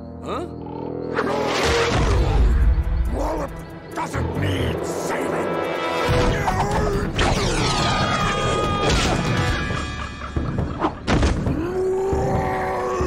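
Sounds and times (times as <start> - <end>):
dramatic background score: 0.0 - 13.0.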